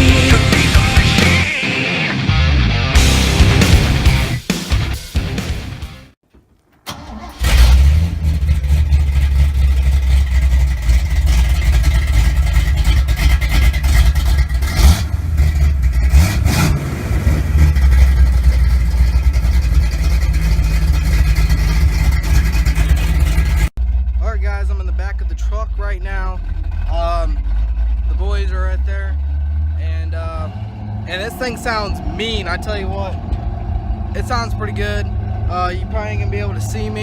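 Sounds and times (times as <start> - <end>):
deep engine exhaust rumble: 0.0 - 1.5, 2.2 - 5.8, 7.4 - 37.0.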